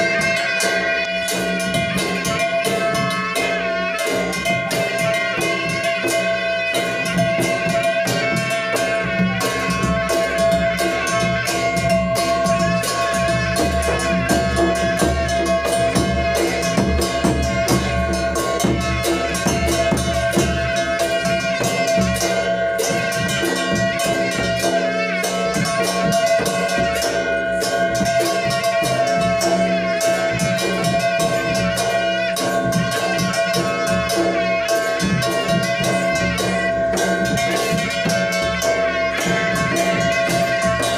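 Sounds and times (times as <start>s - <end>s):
barrel drums beaten fast: 1.4s - 40.9s.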